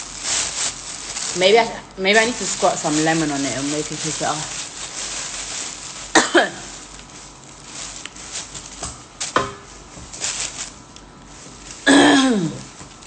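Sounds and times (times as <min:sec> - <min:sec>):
food handling and eating: 0:00.0 - 0:13.0
steady background hiss: 0:00.0 - 0:13.0.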